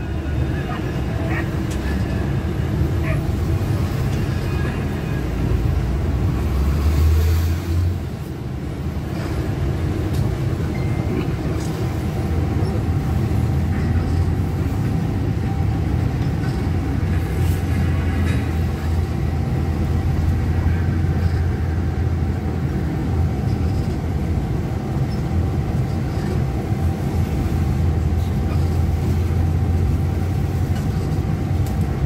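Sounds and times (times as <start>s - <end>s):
bus engine and road noise: 0.0s - 32.0s.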